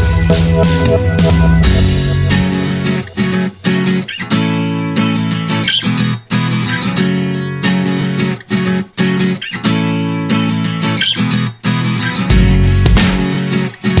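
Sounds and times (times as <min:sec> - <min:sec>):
strummed acoustic guitar chords: 0:00.0 - 0:14.0.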